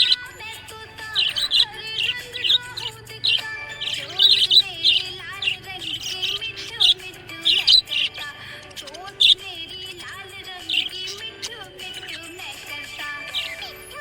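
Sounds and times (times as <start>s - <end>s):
budgerigars chirping: 0.0s - 14.0s.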